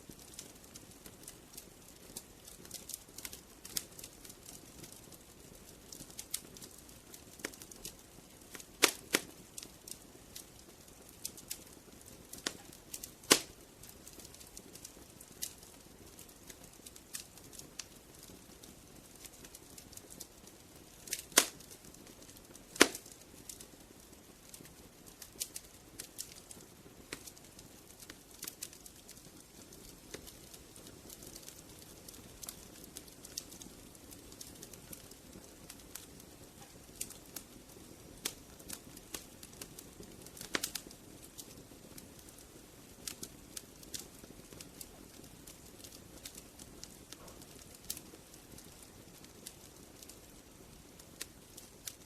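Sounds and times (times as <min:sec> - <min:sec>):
firewood crackling and popping: 0:00.0 - 0:52.0
hiss of flames: 0:00.1 - 0:52.0.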